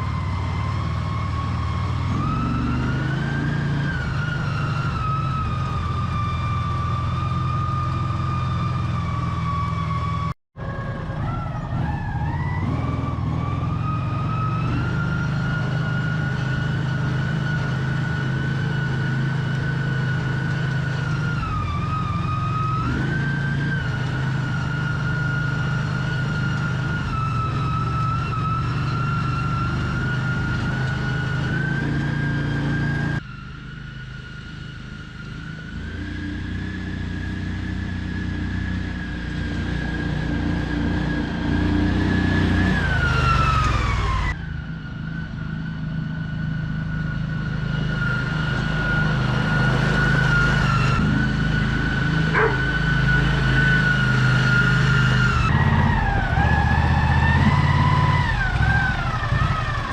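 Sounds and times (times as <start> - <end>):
utility vehicle engine drone: 0.0 - 59.9.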